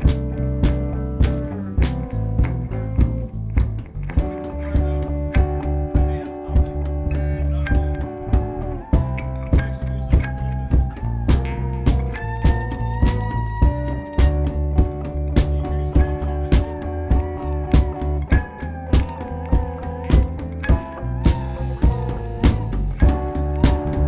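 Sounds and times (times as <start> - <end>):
drum beat: 0.0 - 6.9, 7.8 - 24.0
bass line: 0.0 - 24.0
electric guitar bending notes: 0.0 - 24.0.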